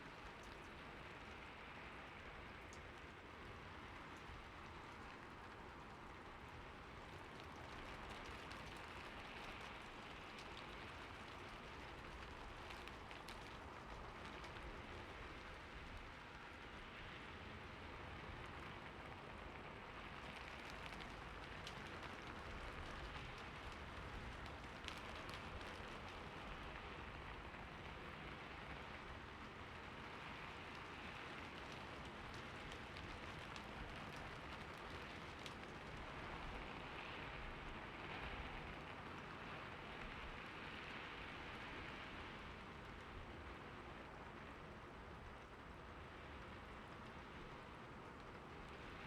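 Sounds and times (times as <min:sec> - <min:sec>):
rain on a roof: 0:00.0 - 0:49.0.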